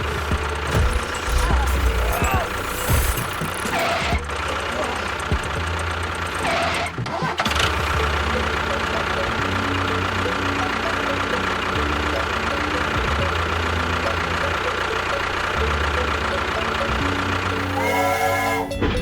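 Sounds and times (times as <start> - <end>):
small motor humming: 0.0 - 18.8.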